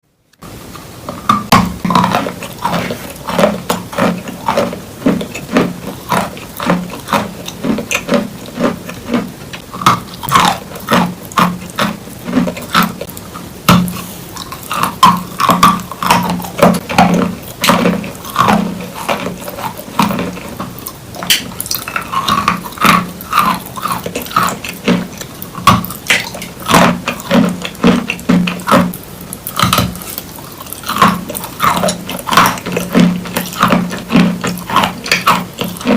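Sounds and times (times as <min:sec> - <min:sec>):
chalk being chewed: 0:01.9 - 0:35.9.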